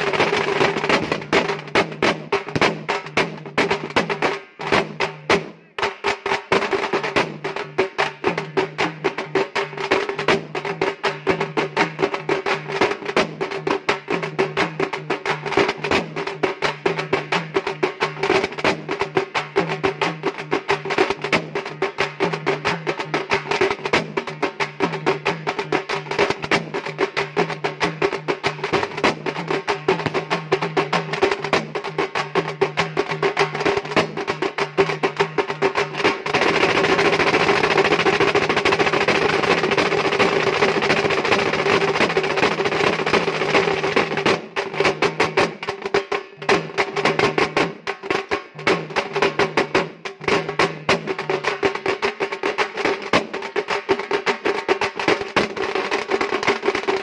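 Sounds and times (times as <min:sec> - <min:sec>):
frame drums beaten fast: 0:00.0 - 0:57.0.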